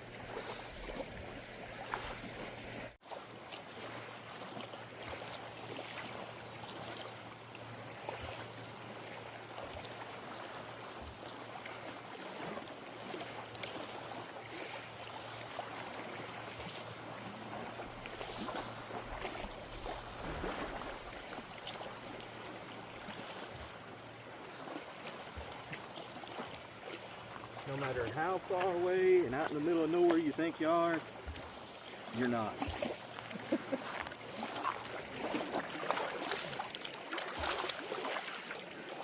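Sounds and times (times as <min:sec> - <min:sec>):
water sloshing and splashing: 0:00.0 - 0:39.0.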